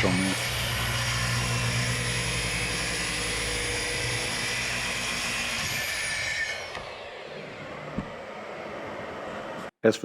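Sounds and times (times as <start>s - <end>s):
router motor drone and whine: 0.0s - 9.7s.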